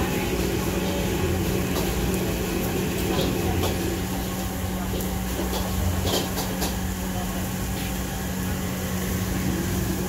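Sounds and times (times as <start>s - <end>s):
mechanical hum and hiss: 0.0s - 10.0s.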